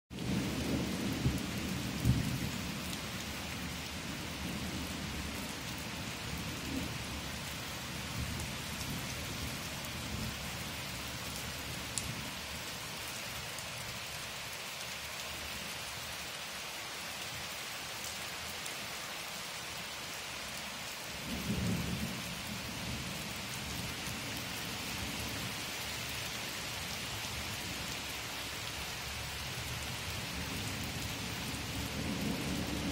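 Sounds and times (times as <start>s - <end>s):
steady rain on wet grass: 0.1s - 32.9s.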